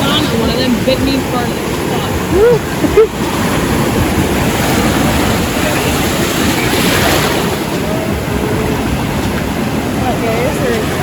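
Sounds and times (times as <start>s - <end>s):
surf breaking over rocks: 0.0s - 11.0s
wind on microphone: 0.0s - 11.0s.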